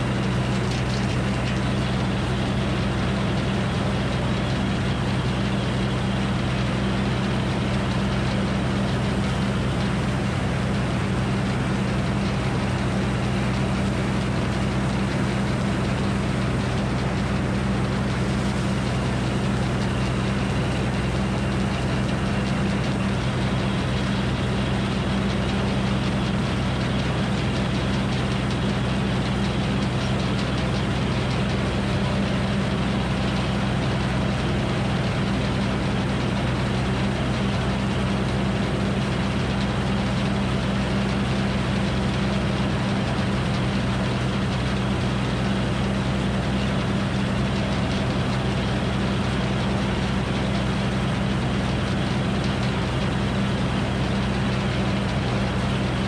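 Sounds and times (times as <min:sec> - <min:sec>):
sawmill running: 0:00.0 - 0:56.0.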